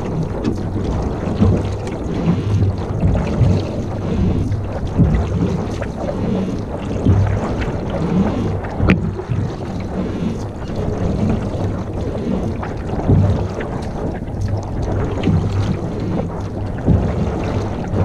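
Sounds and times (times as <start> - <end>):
water sounds from canoe: 0.0 - 18.0
wind buffeting microphone: 0.0 - 18.0.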